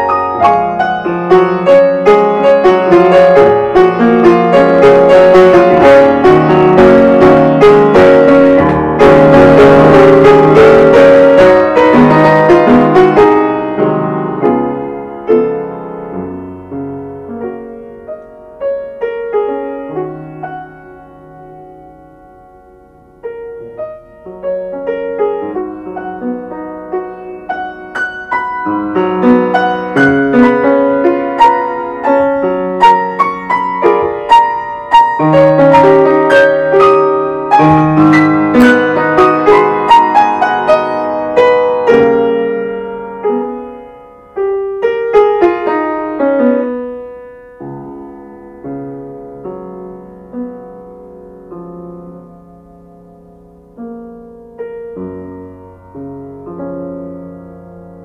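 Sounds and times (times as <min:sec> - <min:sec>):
solo piano playing: 0:00.0 - 0:58.0.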